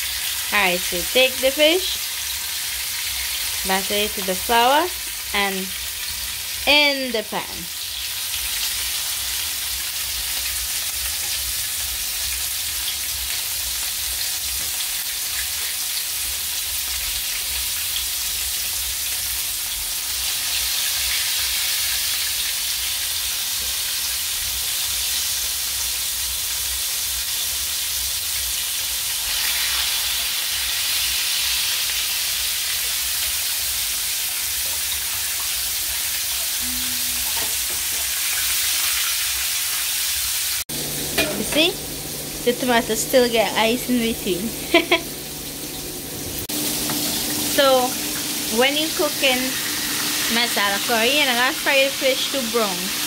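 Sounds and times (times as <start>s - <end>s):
battered fish sizzling in oil: 0.0s - 53.0s.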